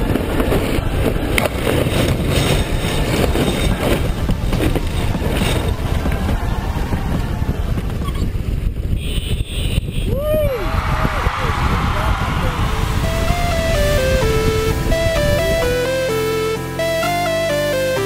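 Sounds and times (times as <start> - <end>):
wind buffeting microphone: 0.0 - 15.5.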